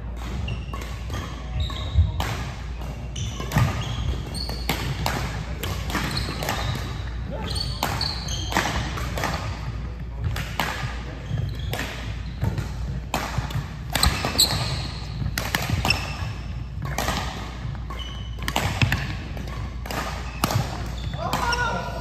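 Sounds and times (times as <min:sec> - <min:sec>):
rackets striking shuttlecock: 0:00.1 - 0:21.7
sneakers squeaking on floor: 0:00.1 - 0:22.0.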